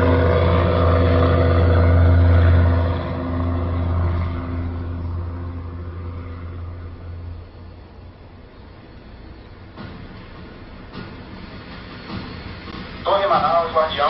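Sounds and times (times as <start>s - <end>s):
small aircraft engine droning: 0.0s - 14.0s.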